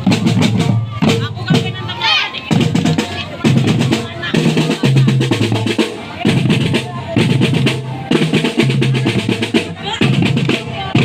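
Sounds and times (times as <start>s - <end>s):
bass drum beats: 0.0s - 11.0s.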